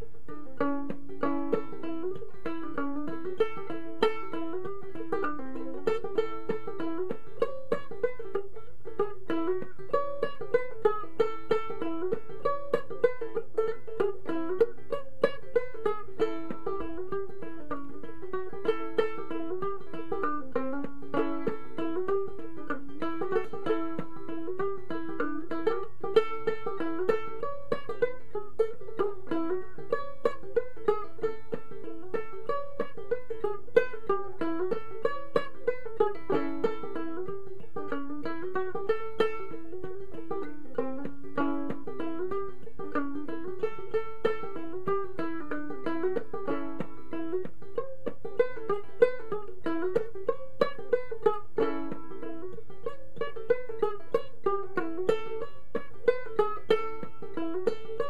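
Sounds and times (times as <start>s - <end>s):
banjo ukulele plucked: 0.0s - 58.0s.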